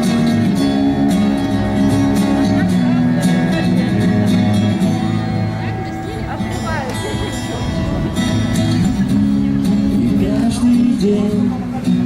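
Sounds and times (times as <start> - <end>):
rock band playing: 0.0 - 10.4.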